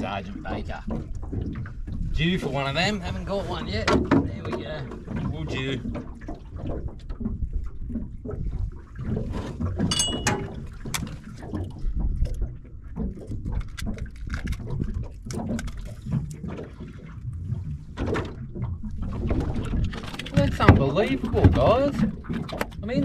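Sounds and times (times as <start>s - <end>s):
water slapping boat hull: 0.0s - 23.0s.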